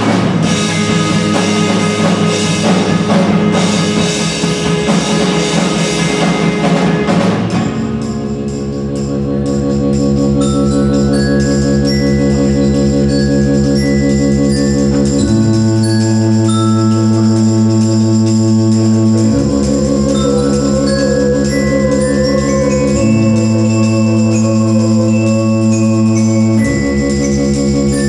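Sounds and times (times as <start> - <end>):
live band playing: 0.0 - 28.0
pulsing held chords: 0.0 - 28.0.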